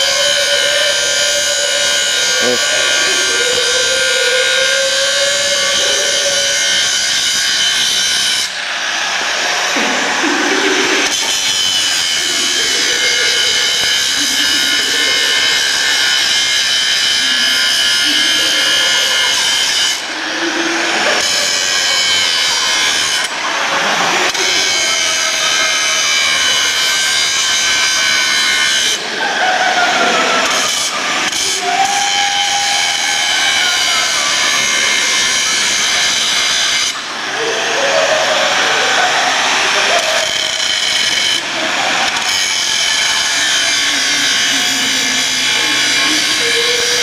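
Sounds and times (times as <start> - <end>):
angle grinder grinding metal: 0.0 - 47.0.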